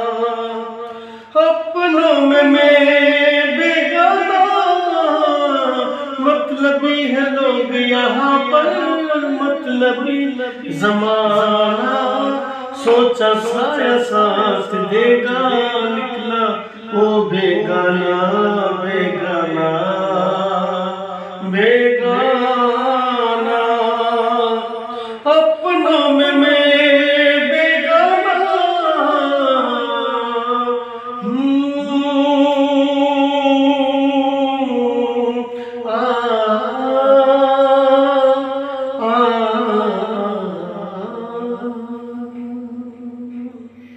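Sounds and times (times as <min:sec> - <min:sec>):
man singing long notes: 0:00.0 - 0:43.9.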